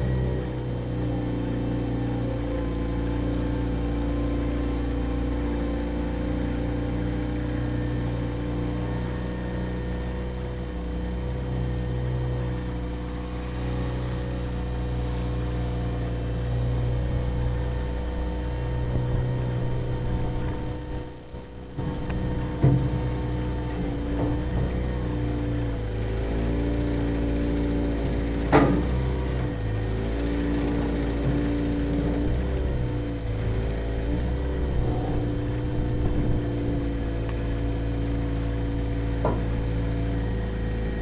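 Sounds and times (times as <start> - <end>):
loader engine running: 0.0 - 41.0.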